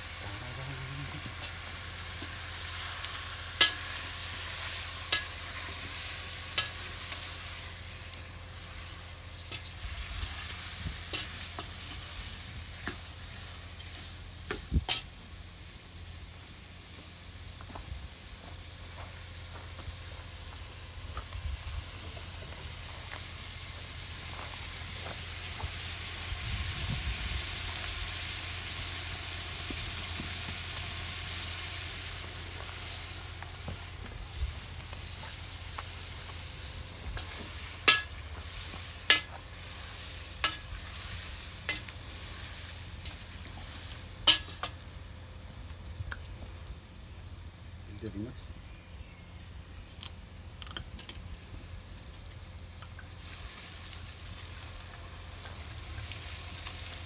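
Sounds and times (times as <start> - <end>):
meat and onion sizzling: 0.0 - 47.8, 48.6 - 57.0.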